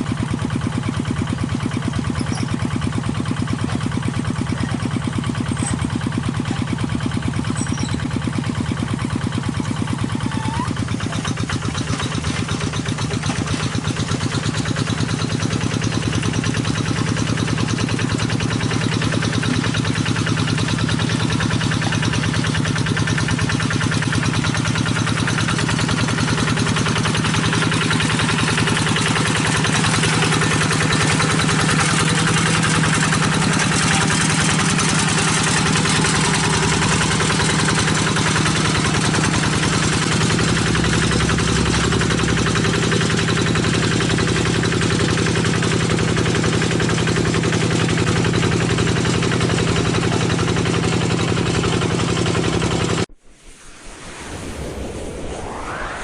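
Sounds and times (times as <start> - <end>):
diesel tractor engine running: 0.0 - 53.1.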